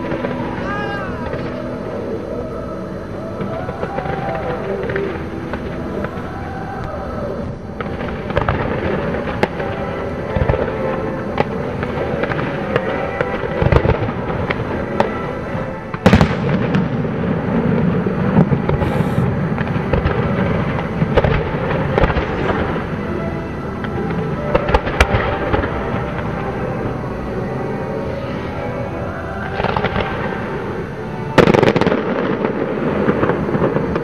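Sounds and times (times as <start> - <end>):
fireworks booming and crackling: 0.0 - 2.2, 3.2 - 27.3, 29.3 - 34.0.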